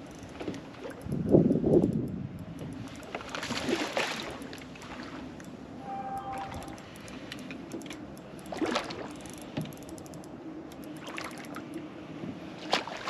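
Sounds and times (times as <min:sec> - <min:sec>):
water and boat sounds: 0:00.0 - 0:13.0.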